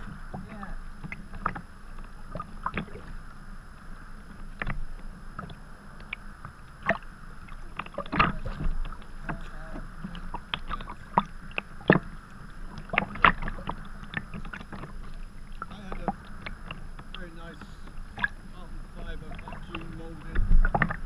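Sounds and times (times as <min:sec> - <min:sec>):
paddle splashing: 0:00.0 - 0:21.0
water sloshing against hull: 0:00.0 - 0:21.0.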